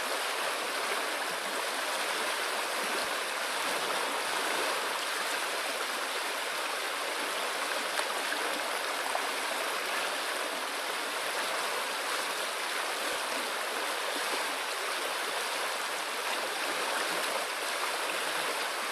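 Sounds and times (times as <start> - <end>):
river water rushing over stones: 0.0 - 18.9.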